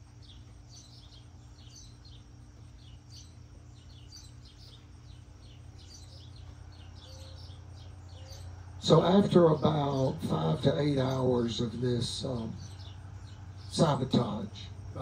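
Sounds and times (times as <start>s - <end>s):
faint low hum: 0.0s - 15.0s
small birds chirping: 0.0s - 15.0s.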